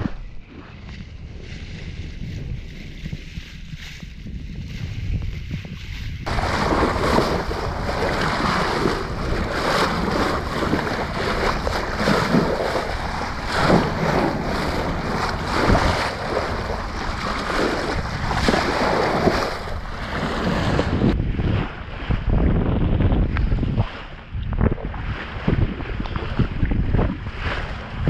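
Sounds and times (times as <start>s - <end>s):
bow wave splashing along hull: 0.0s - 28.0s
wind buffeting microphone: 0.0s - 28.0s.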